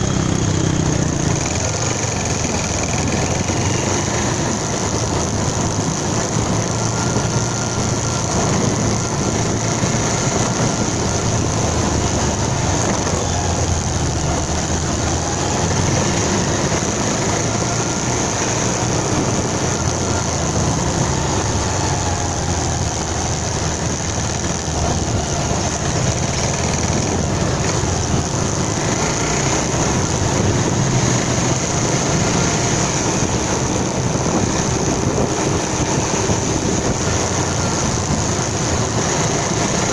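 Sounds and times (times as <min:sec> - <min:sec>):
motorcycle engine humming: 0:00.0 - 0:39.9
wind and road noise: 0:00.0 - 0:39.9.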